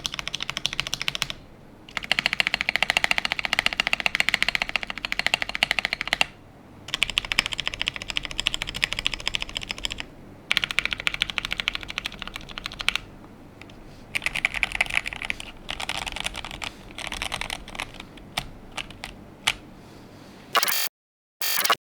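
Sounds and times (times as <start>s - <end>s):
typing on mechanical keyboard: 0.0s - 13.1s, 14.2s - 19.6s.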